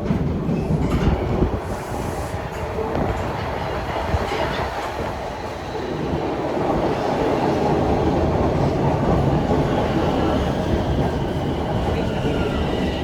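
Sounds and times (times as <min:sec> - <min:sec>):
subway train rumbling on rails: 0:00.0 - 0:13.0.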